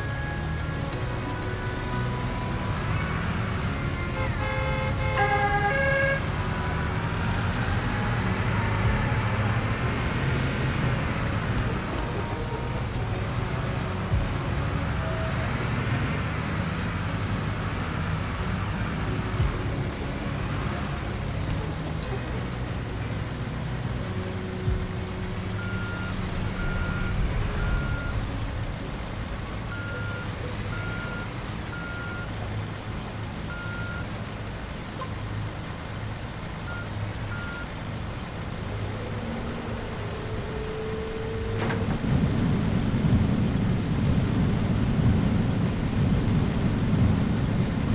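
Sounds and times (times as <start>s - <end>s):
diesel machinery rumbling: 0.0s - 47.9s.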